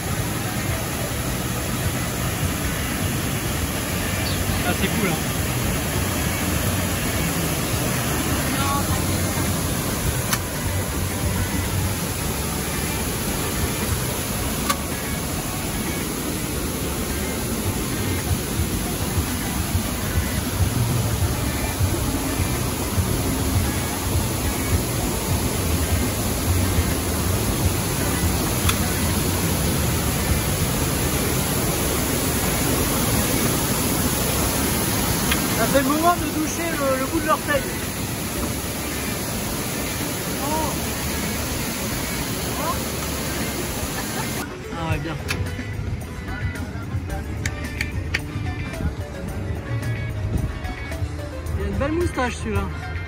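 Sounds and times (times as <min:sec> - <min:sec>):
water rushing past boat: 0:00.0 - 0:46.0.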